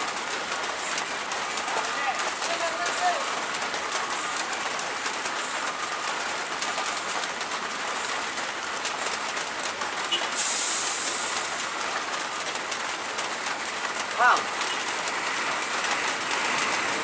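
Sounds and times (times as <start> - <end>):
rain hissing and pattering: 0.0 - 17.0.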